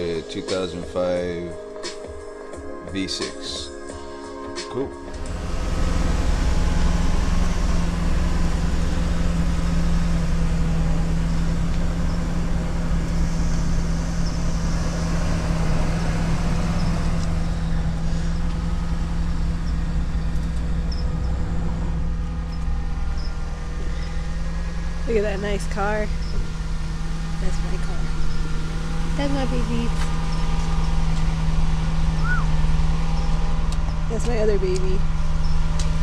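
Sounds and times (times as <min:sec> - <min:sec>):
vehicle engine idling: 0:05.0 - 0:36.0.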